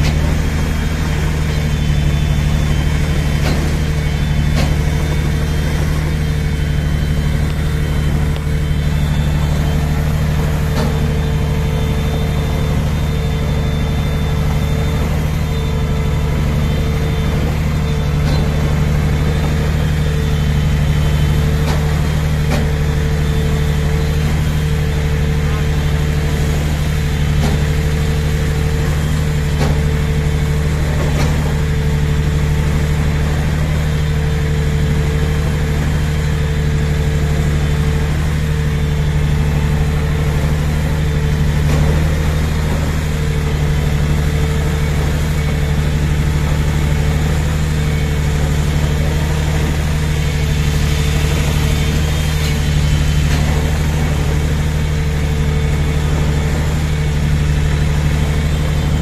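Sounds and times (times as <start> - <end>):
concrete sprayer machine drone: 0.0 - 59.0.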